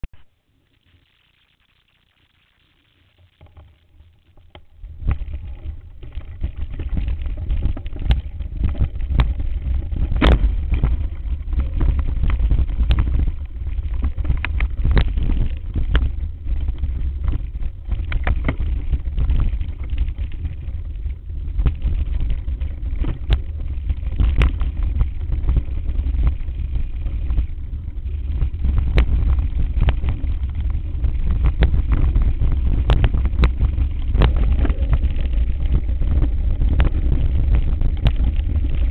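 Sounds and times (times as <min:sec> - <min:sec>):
bike knocking and rattling: 0:03.4 - 0:38.9
wind on microphone: 0:04.6 - 0:38.9.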